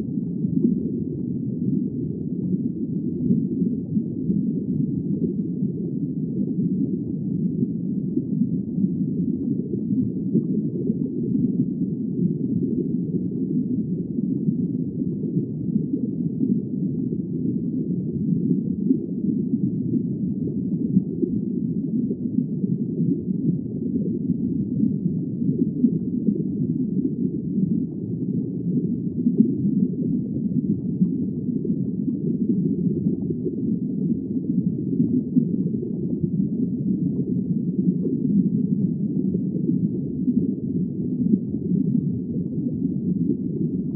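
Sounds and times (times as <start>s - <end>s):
underwater rumble: 0.0s - 43.9s.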